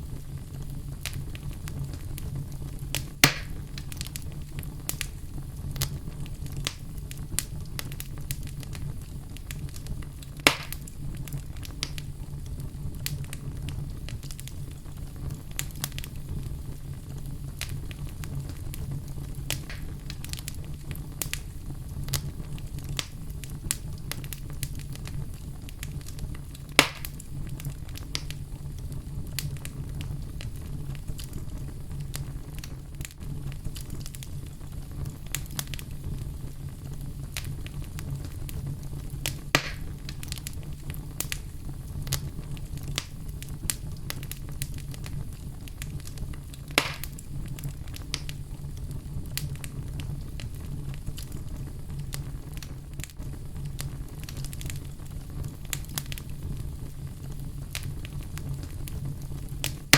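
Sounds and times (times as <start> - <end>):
fire crackling in fireplace: 0.0 - 59.9
fire popping: 0.0 - 59.9.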